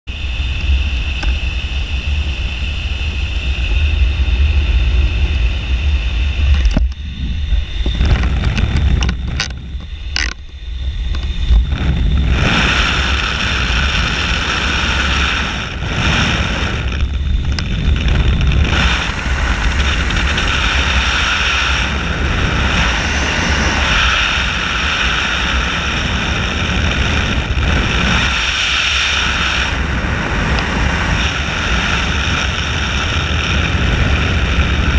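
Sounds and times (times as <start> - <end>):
low rumble: 0.1 - 34.9
wind buffeting microphone: 0.4 - 34.9.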